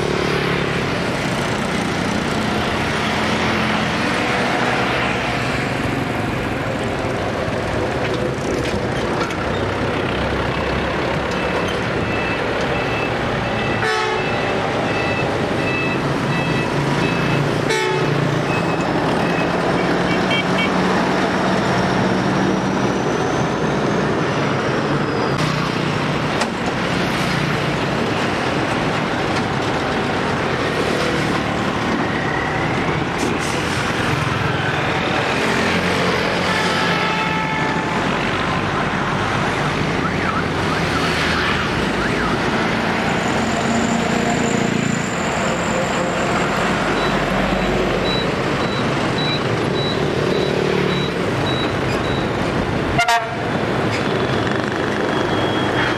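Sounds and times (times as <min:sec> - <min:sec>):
road traffic passing: 0:00.0 - 0:55.9.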